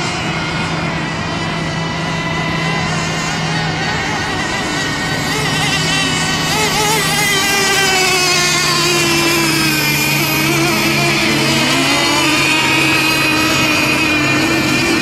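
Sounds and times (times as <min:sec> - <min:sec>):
model boat engines buzzing: 0:00.0 - 0:15.0.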